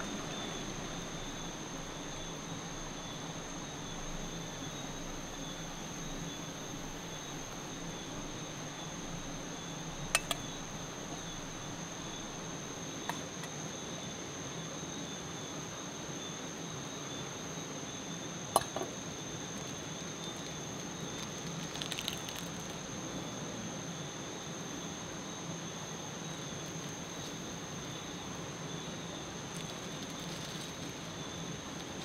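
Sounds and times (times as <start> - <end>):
night insects trilling: 0.0 - 32.0.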